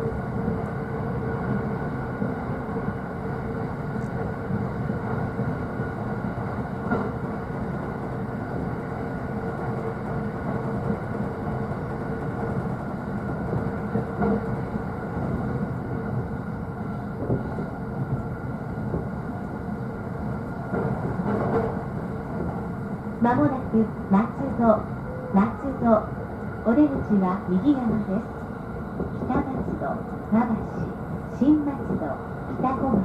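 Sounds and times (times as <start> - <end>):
train interior rumble: 0.0 - 33.0.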